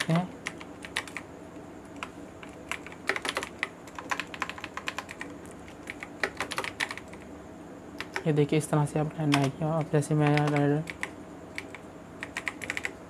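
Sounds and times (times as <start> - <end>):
keyboard typing: 0.0 - 7.3, 8.0 - 8.3, 9.2 - 13.0.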